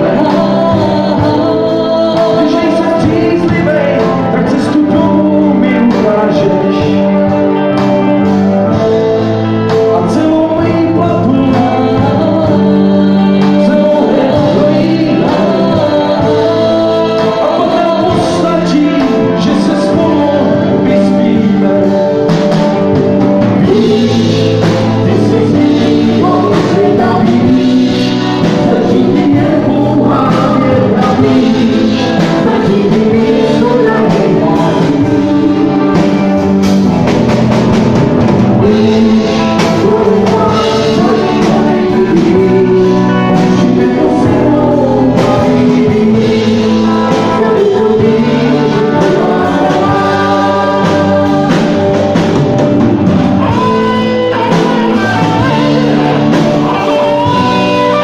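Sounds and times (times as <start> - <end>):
live rock band: 0.0 - 58.0
man singing lead vocal: 0.0 - 58.0.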